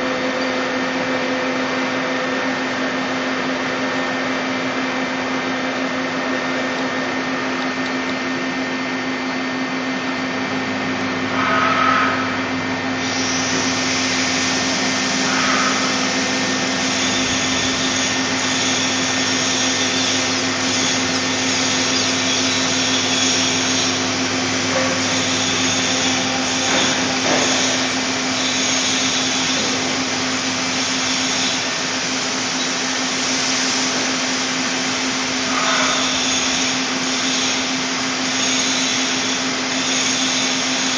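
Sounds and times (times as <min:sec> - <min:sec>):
lathe running with hum and hiss: 0:00.0 - 0:40.9.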